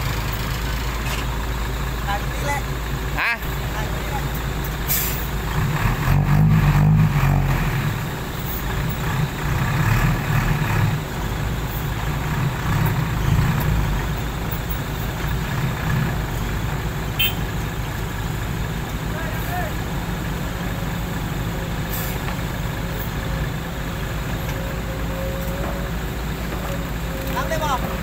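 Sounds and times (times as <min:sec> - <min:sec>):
diesel truck engine revving: 0:00.0 - 0:28.0.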